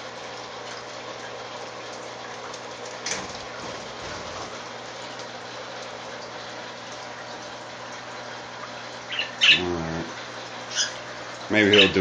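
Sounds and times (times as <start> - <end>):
running water splashing and trickling: 0.0 - 12.0.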